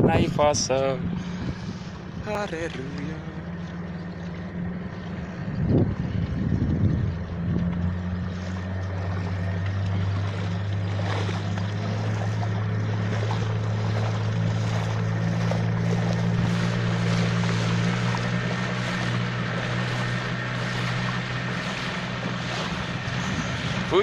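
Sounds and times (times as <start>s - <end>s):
motorboat engine running: 0.0s - 24.0s
water rushing: 0.0s - 24.0s.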